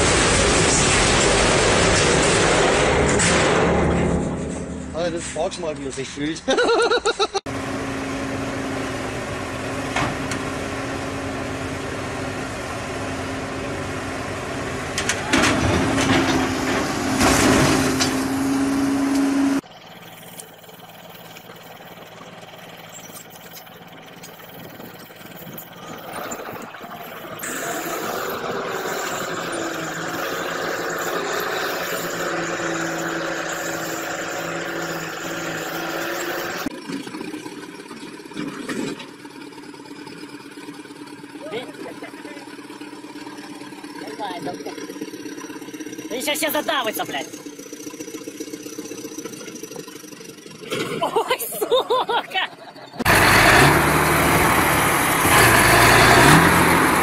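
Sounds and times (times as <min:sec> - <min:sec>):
dump truck diesel engine drone: 0:00.0 - 0:05.8, 0:06.4 - 0:57.0
bulldozer engine running: 0:00.0 - 0:57.0.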